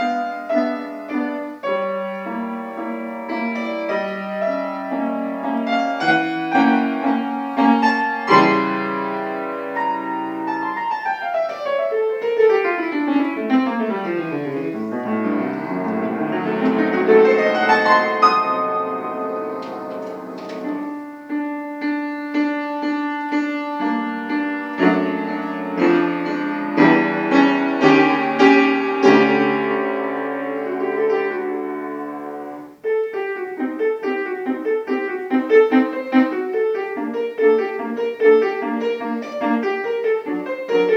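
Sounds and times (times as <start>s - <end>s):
solo piano classical piece: 0.0s - 40.9s.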